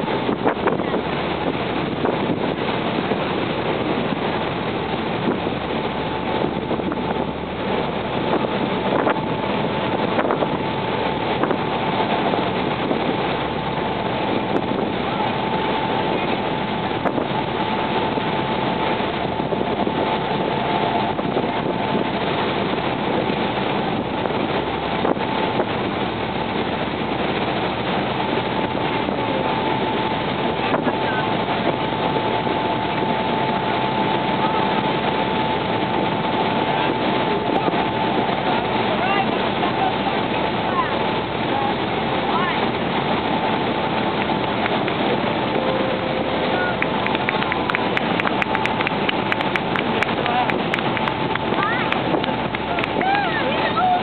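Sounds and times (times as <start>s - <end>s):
boat motor whining: 0.0s - 54.0s
rushing water: 0.0s - 54.0s
wind noise: 0.0s - 54.0s.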